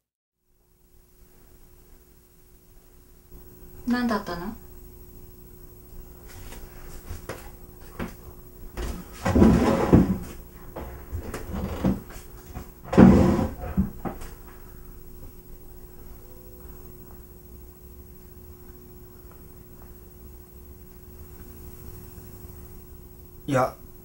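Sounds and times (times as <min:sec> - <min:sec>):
faint steady hum: 0:00.4 - 0:24.0.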